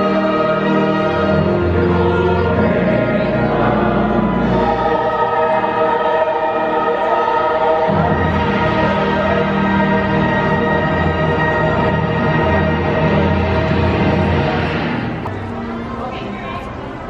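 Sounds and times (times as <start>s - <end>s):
choir singing held chords: 0.0s - 15.7s.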